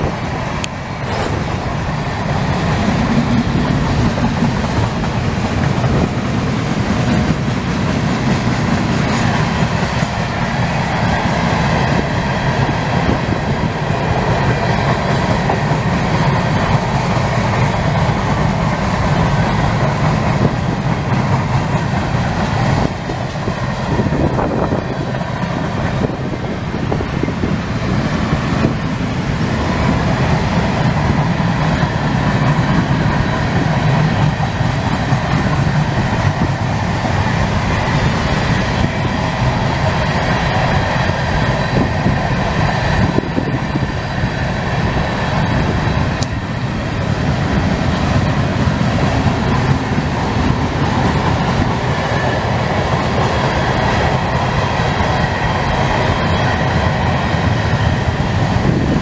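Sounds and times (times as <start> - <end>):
steel wheels running on rail: 0.0 - 59.0.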